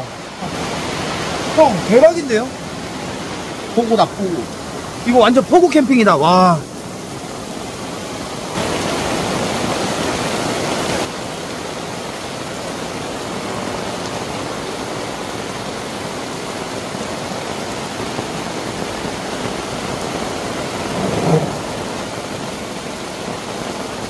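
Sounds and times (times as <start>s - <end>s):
heavy rain on tent and umbrella: 0.0s - 24.0s
water runoff streaming: 0.0s - 24.0s.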